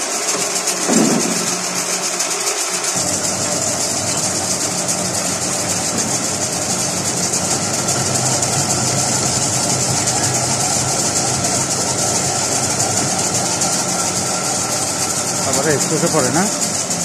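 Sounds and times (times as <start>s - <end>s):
metal lathe humming: 0.0s - 17.0s.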